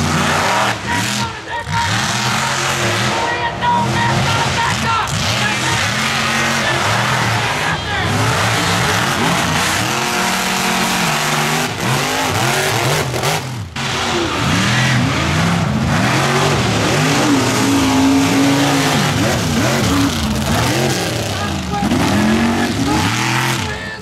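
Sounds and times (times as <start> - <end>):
engine revving hard: 0.0 - 24.0.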